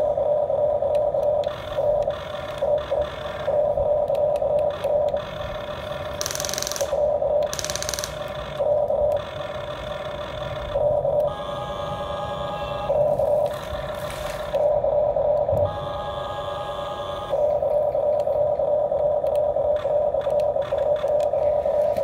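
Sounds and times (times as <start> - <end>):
small electric motors whining: 0.9 - 14.8, 15.4 - 22.0.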